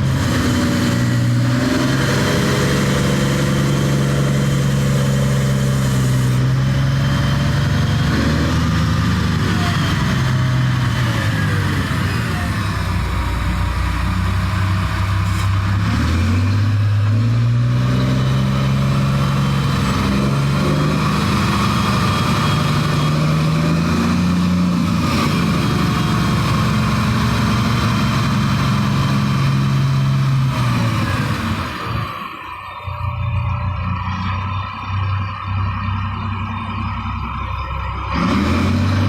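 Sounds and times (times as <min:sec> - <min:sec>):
dump truck diesel engine revving: 0:00.0 - 0:39.0.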